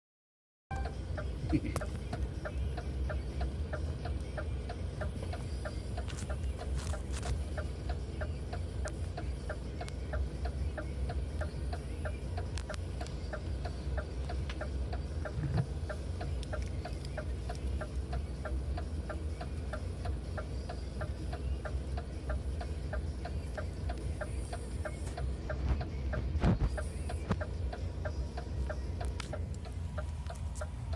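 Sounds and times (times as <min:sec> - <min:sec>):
engine idling: 0:00.7 - 0:30.9.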